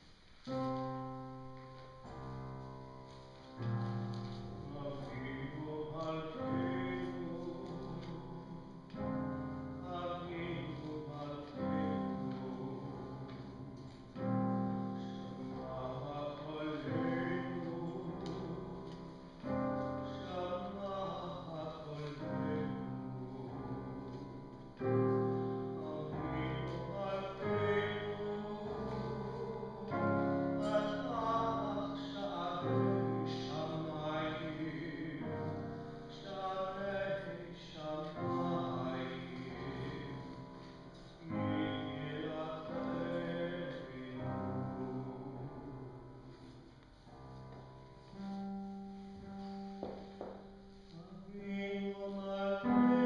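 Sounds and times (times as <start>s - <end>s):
slow piano music: 0.0s - 53.0s.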